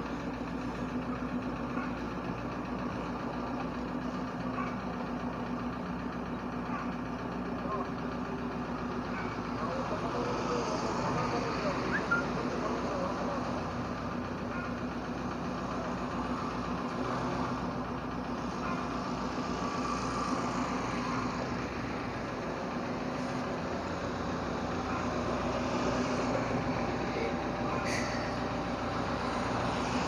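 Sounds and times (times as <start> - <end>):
car engine running at low revs: 0.0 - 30.0.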